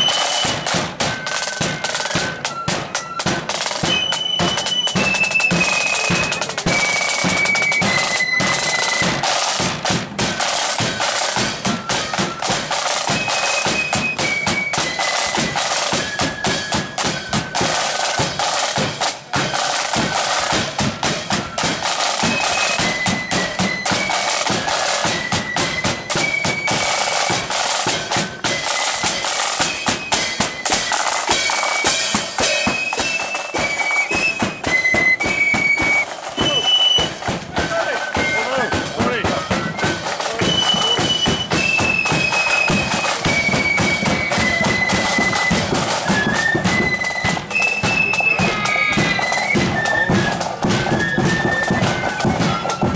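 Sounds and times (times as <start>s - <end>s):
high flute melody: 0.0s - 52.9s
snare drums: 0.0s - 52.9s.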